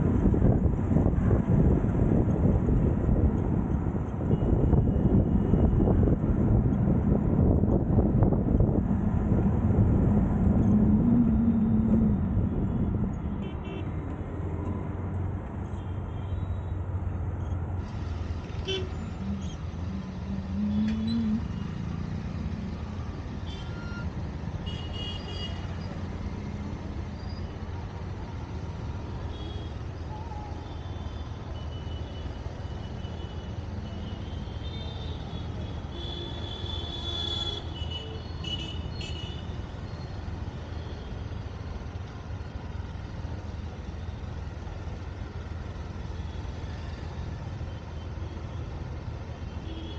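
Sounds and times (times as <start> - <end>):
traffic engine and tyre rumble: 0.0 - 49.9.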